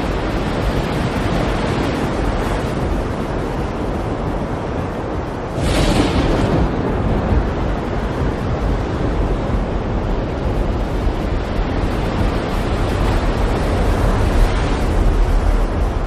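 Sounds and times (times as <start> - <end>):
waves breaking: 0.0 - 16.0
wind roaring: 0.0 - 16.0.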